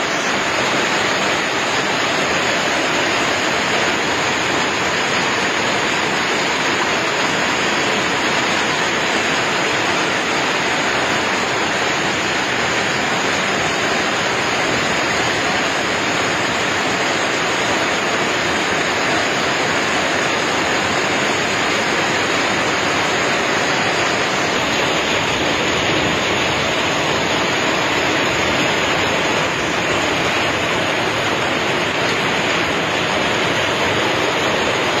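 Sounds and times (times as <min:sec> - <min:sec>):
hail striking ground: 0:00.2 - 0:35.0.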